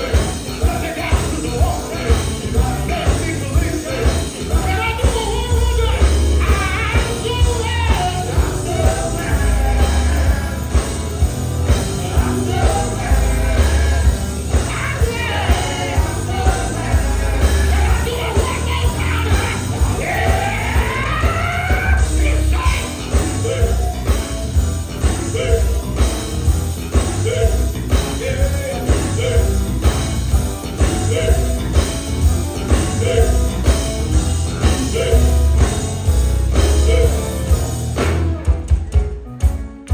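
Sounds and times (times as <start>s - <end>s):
gospel band playing: 0.0s - 39.9s.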